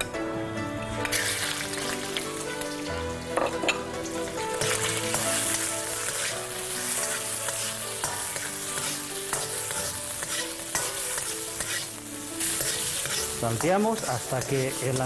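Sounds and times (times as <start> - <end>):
ladle scraping and clinking wok: 1.0 - 15.0
prawns sizzling in oil: 1.0 - 15.0.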